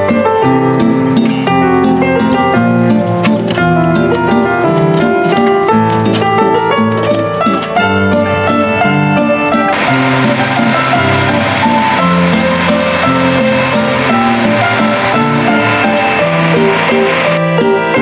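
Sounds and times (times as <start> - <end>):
plucked-string instrumental music: 0.0 - 18.0.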